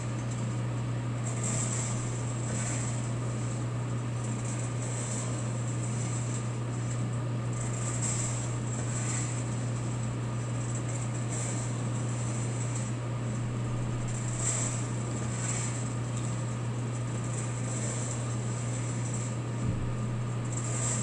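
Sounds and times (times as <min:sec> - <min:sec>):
coffee roaster blower humming: 0:00.0 - 0:21.0.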